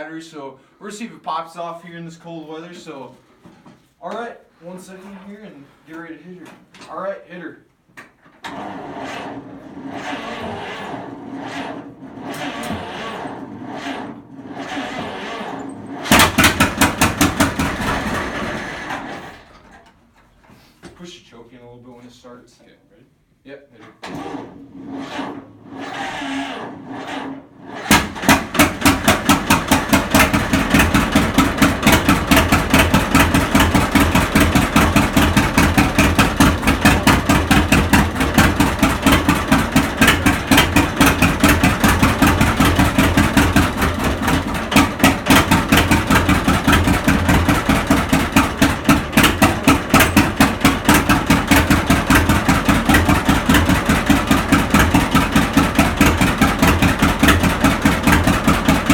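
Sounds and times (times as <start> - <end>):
tractor engine cranking and running: 8.2 - 20.5, 23.9 - 58.9.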